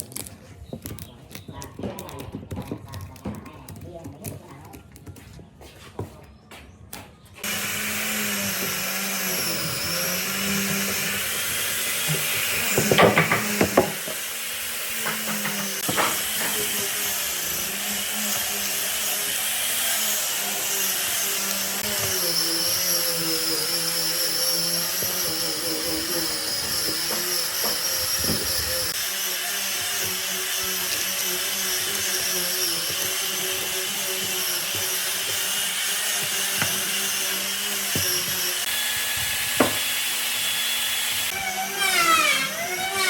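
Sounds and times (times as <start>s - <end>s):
electric power tool whining: 7.4s - 43.0s.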